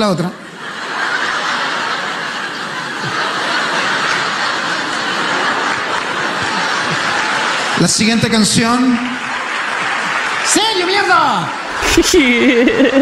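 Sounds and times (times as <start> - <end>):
large audience laughing: 0.0 - 13.0.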